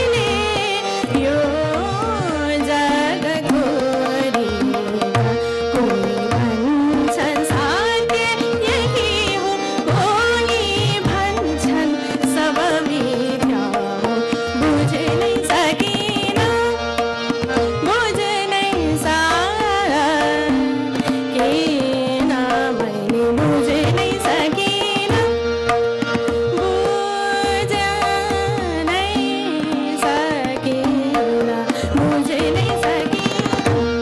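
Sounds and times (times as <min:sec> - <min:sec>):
woman singing classical vocal: 0:00.0 - 0:25.4, 0:26.2 - 0:34.0
harmonium melody: 0:00.0 - 0:34.0
tabla rhythm: 0:00.0 - 0:34.0
tanpura drone: 0:00.0 - 0:34.0.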